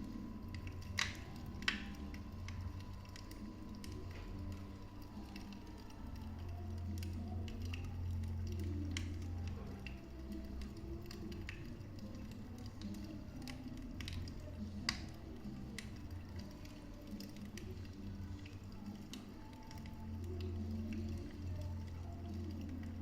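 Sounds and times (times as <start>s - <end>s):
fire crackling and popping: 0.0s - 23.0s
low fire rumble: 0.0s - 23.0s.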